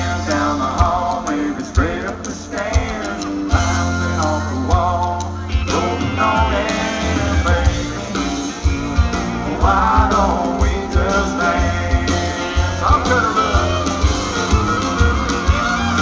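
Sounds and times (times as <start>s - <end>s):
guitar: 0.0s - 16.0s
man singing: 0.0s - 16.0s.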